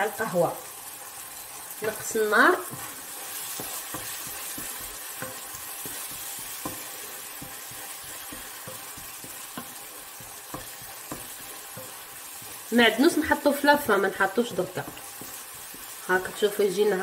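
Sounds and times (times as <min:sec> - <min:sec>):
sauce sizzling in frying pan: 0:00.0 - 0:17.0
wooden spoon scraping pan: 0:01.8 - 0:16.6.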